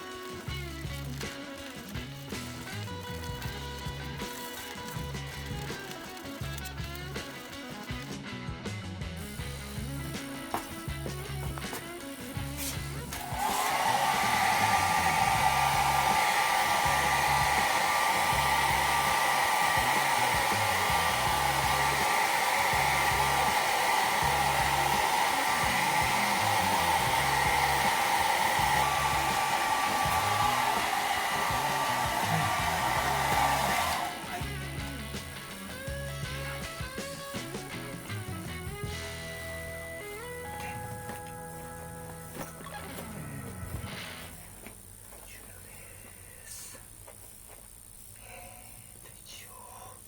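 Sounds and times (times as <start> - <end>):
electric blower whining: 0.0 - 45.3
background music with steady beat: 0.0 - 48.2.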